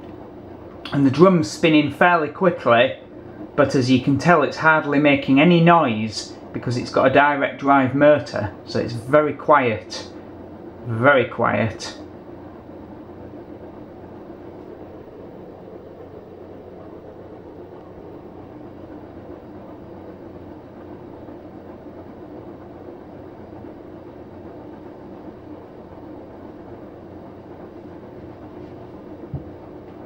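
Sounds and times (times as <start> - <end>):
washing machine drum humming: 0.0 - 30.0.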